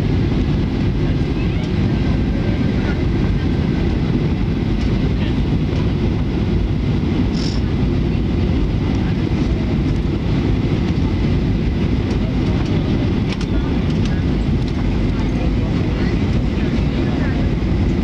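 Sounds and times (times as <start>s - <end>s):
jet cabin engine rumble: 0.0s - 18.0s.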